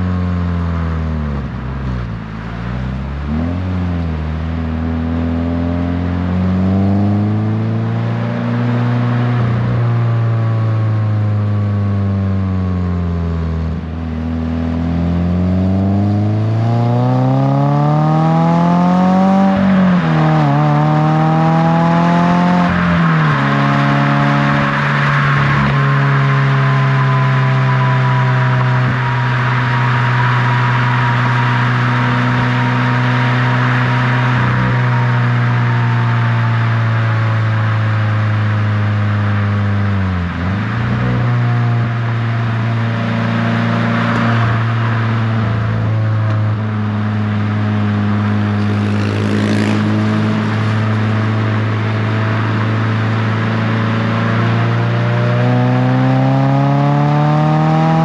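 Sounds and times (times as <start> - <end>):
car exhaust under acceleration: 0.0 - 58.0.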